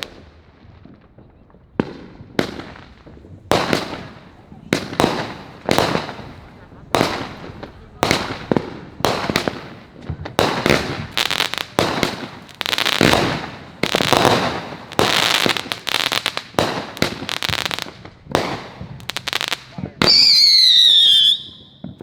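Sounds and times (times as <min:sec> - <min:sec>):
firework crackling: 0:00.0 - 0:22.0
firework mortar bangs: 0:00.0 - 0:22.0.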